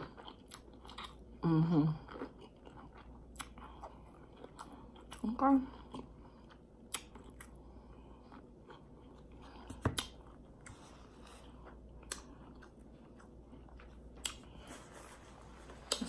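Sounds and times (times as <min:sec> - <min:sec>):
chewing crunchy food: 0:00.0 - 0:14.7.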